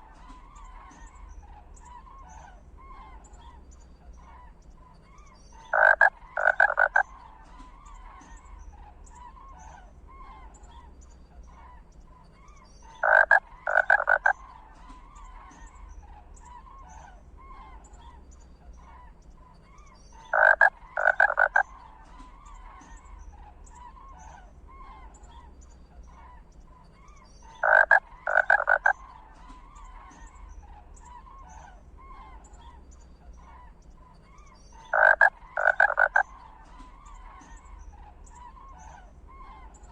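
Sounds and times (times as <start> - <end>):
faint chirping calls: 0.0 - 39.9.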